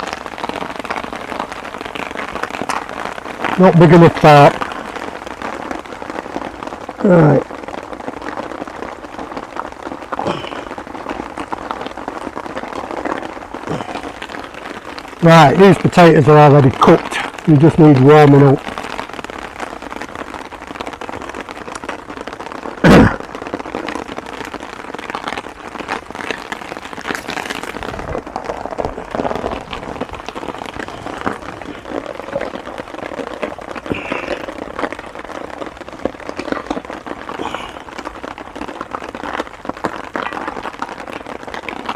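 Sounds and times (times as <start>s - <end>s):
heavy rain falling: 0.0s - 41.9s
sharp raindrop strikes: 0.0s - 41.9s.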